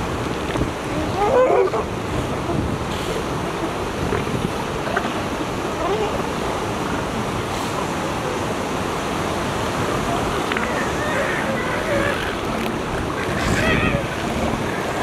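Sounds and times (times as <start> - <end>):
ocean surf: 0.0 - 15.0
wind noise on microphone: 0.0 - 15.0.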